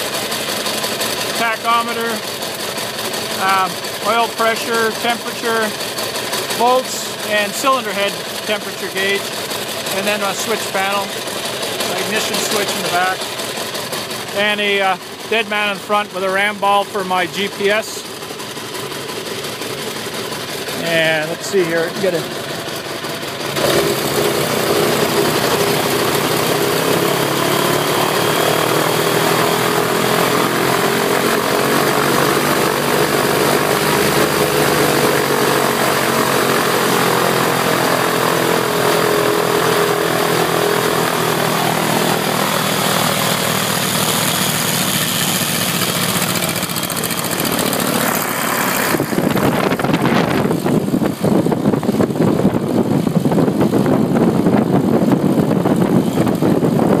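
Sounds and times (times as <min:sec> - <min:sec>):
airboat engine and propeller running: 0:00.0 - 0:57.0.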